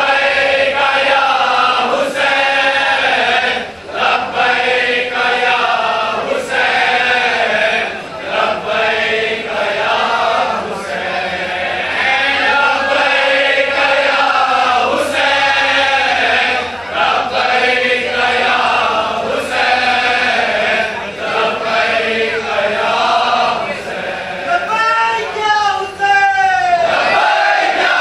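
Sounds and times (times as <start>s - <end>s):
crowd of men chanting: 0.0s - 25.6s, 26.5s - 28.0s.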